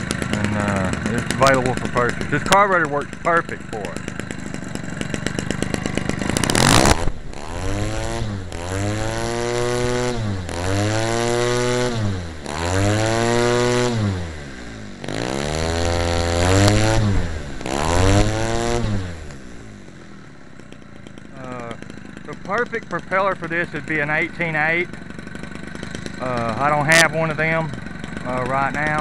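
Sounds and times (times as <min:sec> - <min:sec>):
loud engine blast: 0:00.0 - 0:29.0
two-stroke engine revving: 0:00.0 - 0:29.0.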